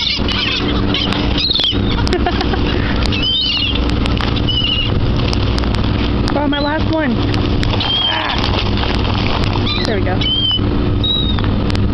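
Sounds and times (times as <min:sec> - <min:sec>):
seagulls calling: 0:00.0 - 0:11.6
low engine drone: 0:00.0 - 0:11.9.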